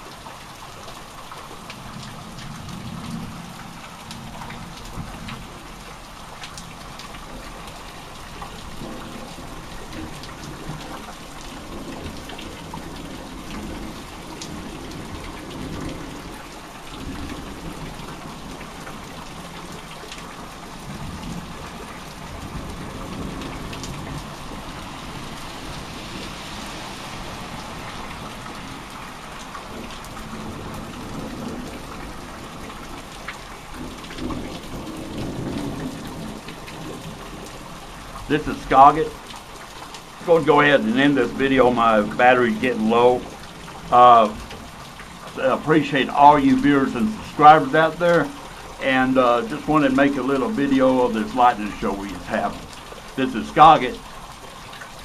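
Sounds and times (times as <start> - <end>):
raindrops ticking on surfaces: 0.0 - 55.0
steady rain: 0.0 - 55.0.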